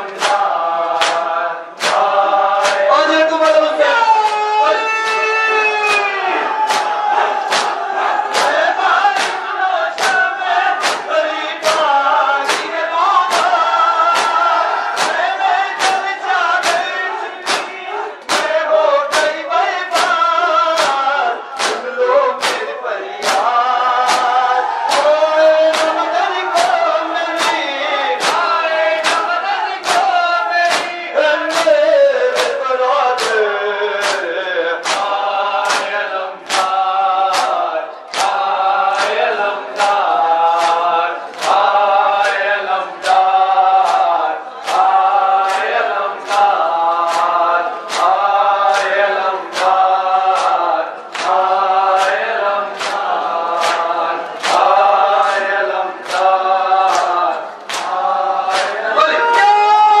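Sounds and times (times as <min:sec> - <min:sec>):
men chanting a lament: 0:00.0 - 1:00.0.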